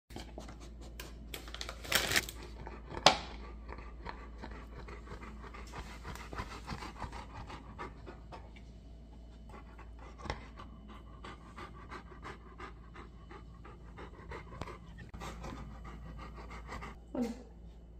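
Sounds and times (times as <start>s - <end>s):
dog panting: 2.4s - 17.0s.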